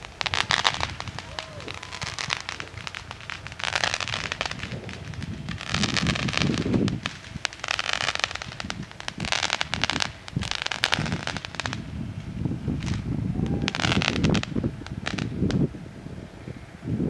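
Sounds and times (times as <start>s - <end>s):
fireworks hissing and crackling: 0.0s - 17.0s.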